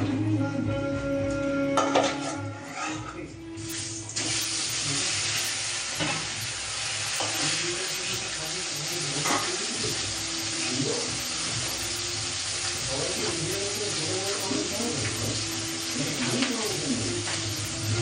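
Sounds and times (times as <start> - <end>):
fish sizzling in hot oil: 3.6 - 18.0.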